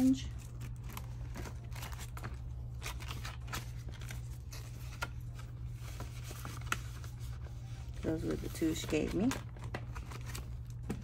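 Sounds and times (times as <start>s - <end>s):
paper bills rustling: 0.0s - 11.0s.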